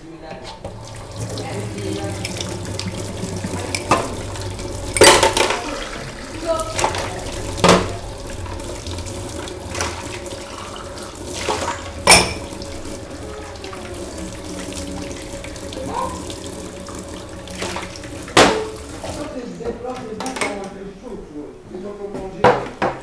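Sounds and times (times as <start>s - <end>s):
tap running into sink: 0.3s - 20.7s.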